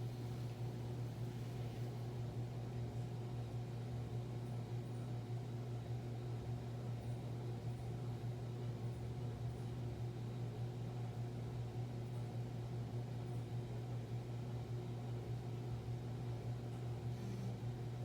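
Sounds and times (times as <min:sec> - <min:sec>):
low hum with light hiss: 0:00.0 - 0:18.0.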